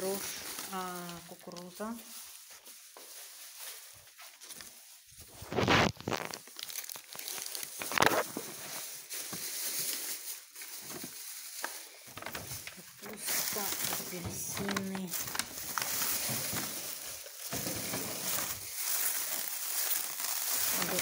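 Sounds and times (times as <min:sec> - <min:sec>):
paper and plastic bags rustling: 0:00.0 - 0:21.0.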